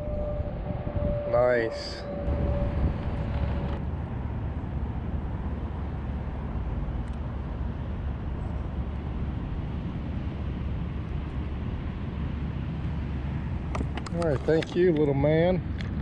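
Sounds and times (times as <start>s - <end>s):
wind buffeting microphone: 0.0s - 6.0s, 9.2s - 16.0s.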